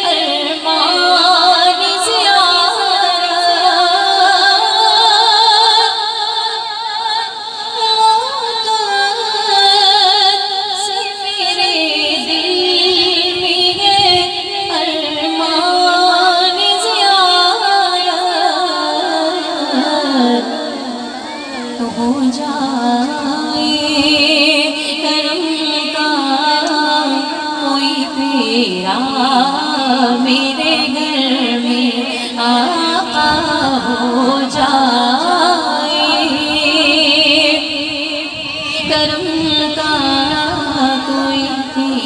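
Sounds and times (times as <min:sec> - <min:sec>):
woman singing with echo: 0:00.0 - 0:42.0.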